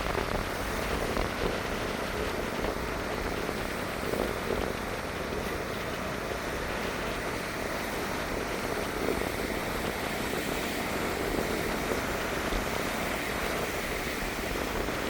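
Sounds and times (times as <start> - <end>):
small waves washing onto beach: 0.0 - 15.0.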